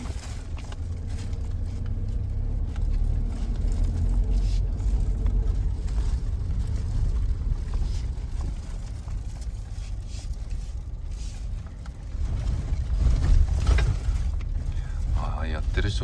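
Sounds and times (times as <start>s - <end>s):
engine and drivetrain rumble: 0.0s - 16.0s.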